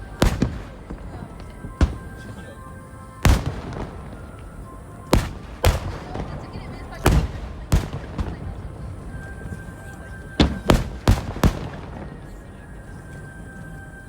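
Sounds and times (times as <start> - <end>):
fireworks bursting in sharp booms: 0.0 - 14.0.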